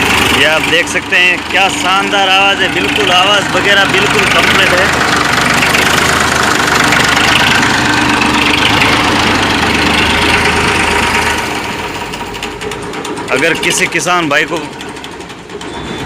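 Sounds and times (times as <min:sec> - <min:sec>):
tractor diesel engine idling: 0:00.0 - 0:16.0.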